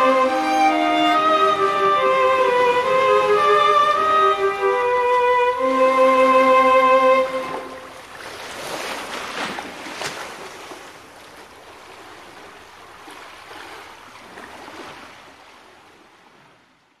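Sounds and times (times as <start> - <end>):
sea waves washing on shore: 0.0 - 16.7.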